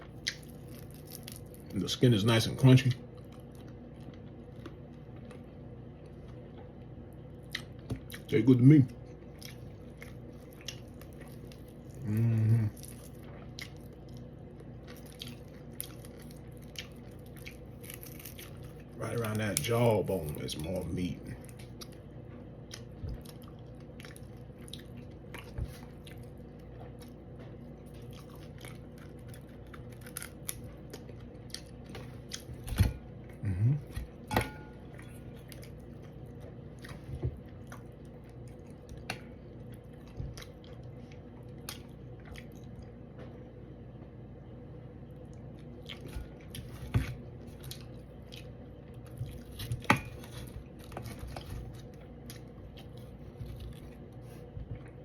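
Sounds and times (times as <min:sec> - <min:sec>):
chewing and crunching fried fish: 0:00.0 - 0:43.0, 0:45.1 - 0:55.0
steady low hum: 0:00.0 - 0:55.0.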